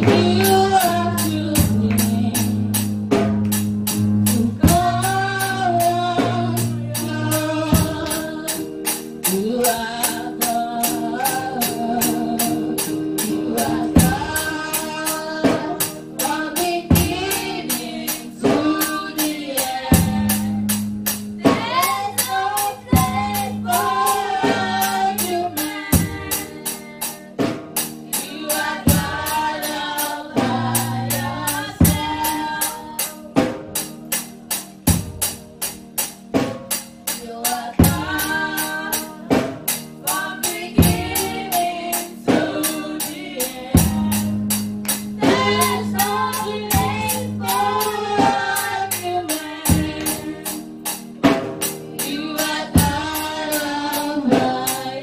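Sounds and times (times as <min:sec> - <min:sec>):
children singing gospel song: 0:00.0 - 0:55.0
electronic keyboard chords: 0:00.0 - 0:55.0
steady percussion beat: 0:00.0 - 0:55.0.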